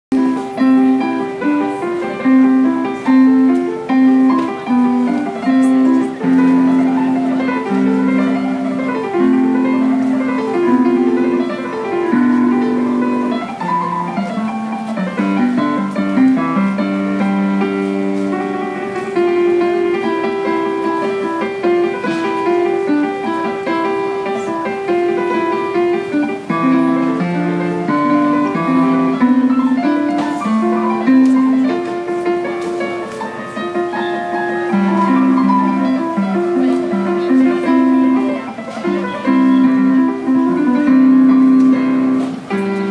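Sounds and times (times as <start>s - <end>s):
digital piano melody over chords: 0.1s - 42.9s.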